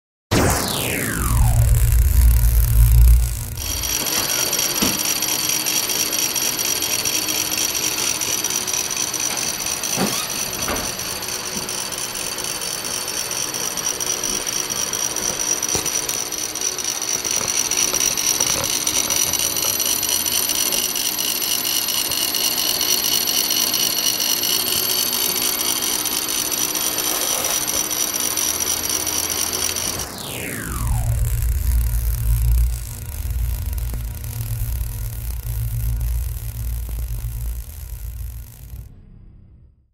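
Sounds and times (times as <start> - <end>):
rough mechanical noise: 0.7 - 39.6.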